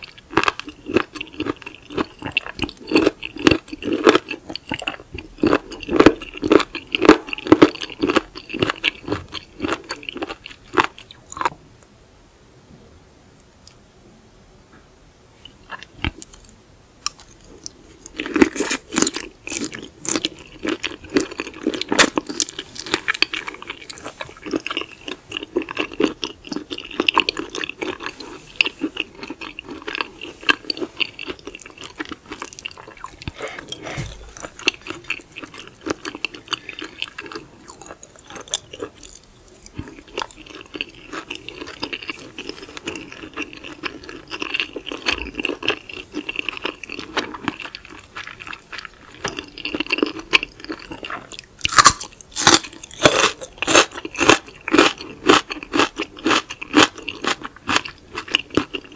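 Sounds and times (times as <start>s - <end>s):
chewing crunchy seafood: 0.0s - 11.5s, 15.4s - 58.9s.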